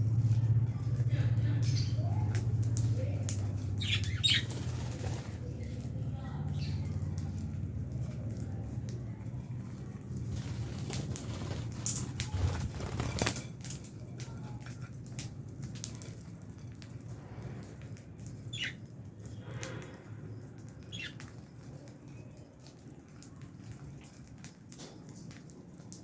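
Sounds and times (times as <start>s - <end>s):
birds clicking and rustling: 0.0s - 26.0s.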